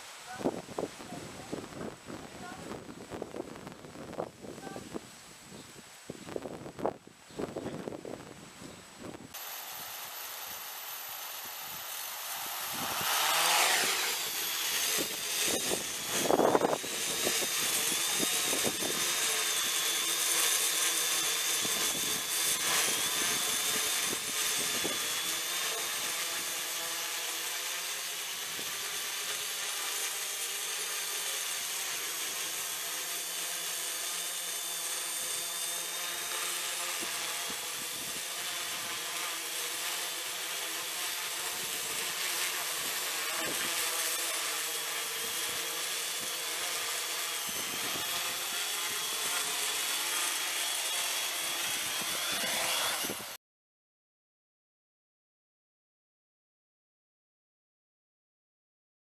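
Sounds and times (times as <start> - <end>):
quadcopter motors whirring: 0.0 - 53.4.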